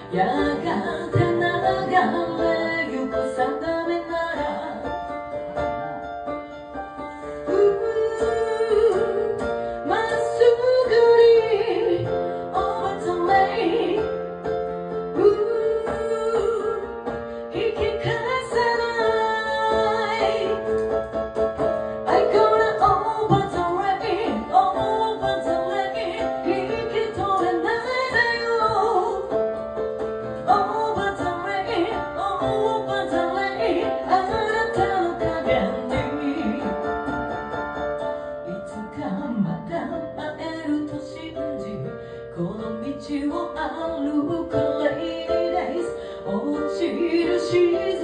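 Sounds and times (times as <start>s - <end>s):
woman singing: 0.0s - 5.2s, 7.4s - 14.3s, 15.1s - 21.0s, 22.0s - 29.4s, 30.3s - 37.4s, 38.4s - 48.0s
piano: 0.0s - 48.0s.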